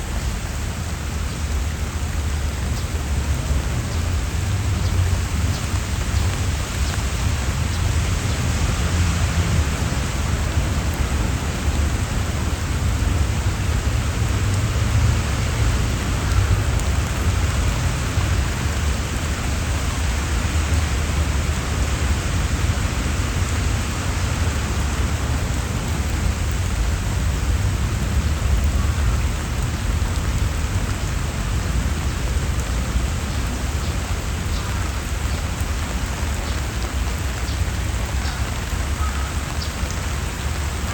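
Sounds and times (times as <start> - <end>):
rain falling on leaves and stone: 0.0 - 40.9.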